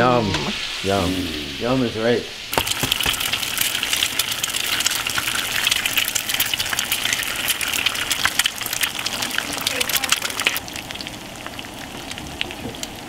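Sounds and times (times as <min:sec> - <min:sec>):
eggs frying in a pan: 0:02.5 - 0:13.0.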